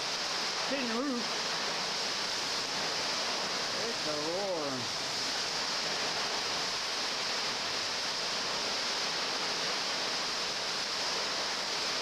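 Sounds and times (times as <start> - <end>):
rain on a tin roof: 0.0 - 12.0.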